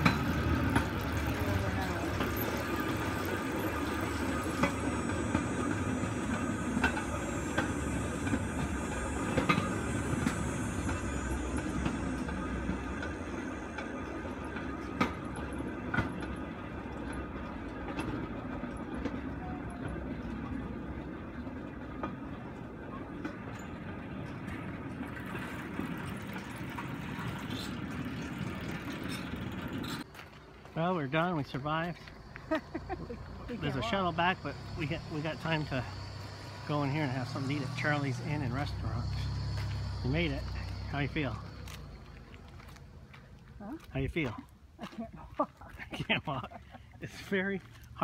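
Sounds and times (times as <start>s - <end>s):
steel wheels rumbling on rail track: 0.0s - 48.0s
wheels clicking over rail joints: 0.0s - 48.0s.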